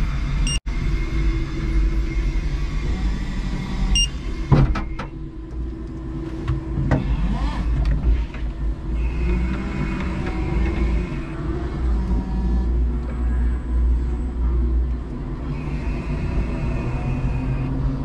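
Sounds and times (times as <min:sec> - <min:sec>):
electric drive hum: 0:00.0 - 0:18.0
electric truck rumbling: 0:00.0 - 0:18.0.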